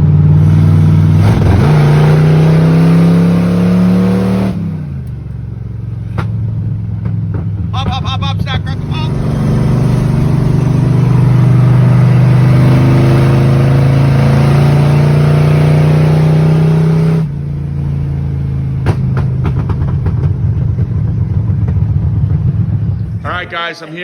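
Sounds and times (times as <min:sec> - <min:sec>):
loud car engine driving: 0:00.0 - 0:24.0.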